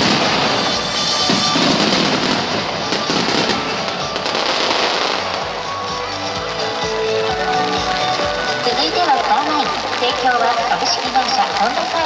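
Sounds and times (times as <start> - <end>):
fireworks bursting and crackling: 0.0 - 12.0
music playing: 0.0 - 12.0.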